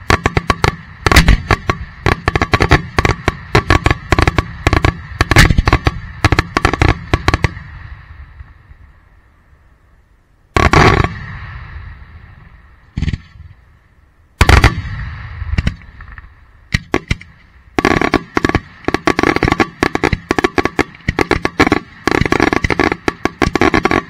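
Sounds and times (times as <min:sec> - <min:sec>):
fireworks bangs: 0:00.0 - 0:08.8, 0:10.6 - 0:13.6, 0:14.4 - 0:24.0.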